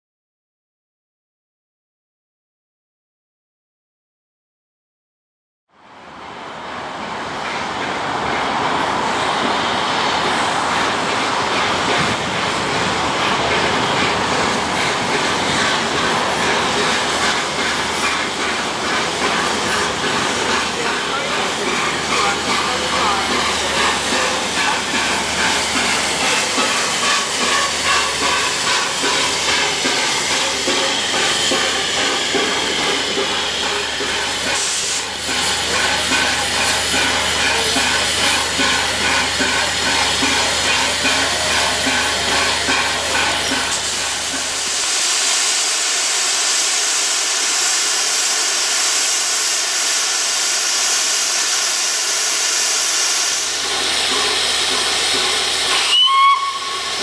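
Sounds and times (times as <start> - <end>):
hissing steam: 8.9 - 57.0
steam locomotive exhaust beats: 9.2 - 57.0.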